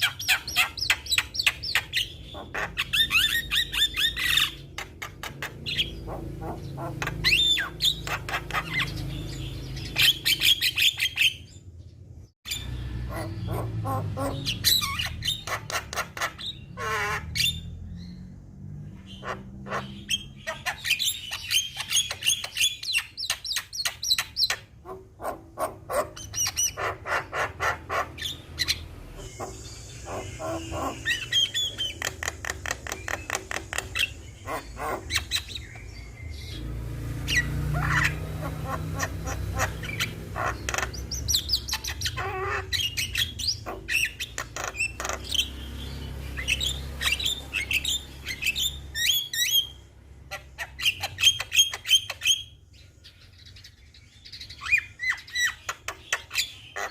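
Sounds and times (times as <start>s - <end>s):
bird singing with chattering notes: 0.0s - 56.9s.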